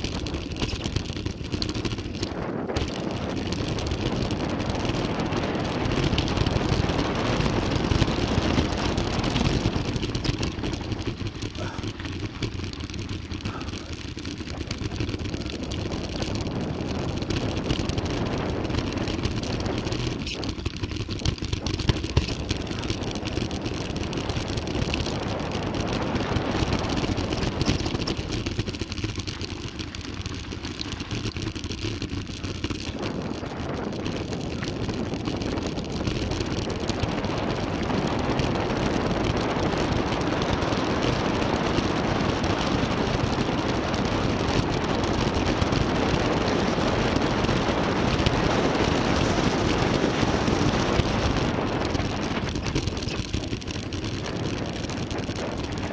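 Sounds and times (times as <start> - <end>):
bike tyres rolling over dirt: 0.0 - 55.9.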